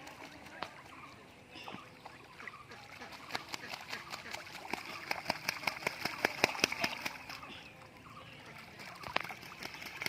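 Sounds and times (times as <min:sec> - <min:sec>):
ducks splashing in water: 0:00.0 - 0:10.0.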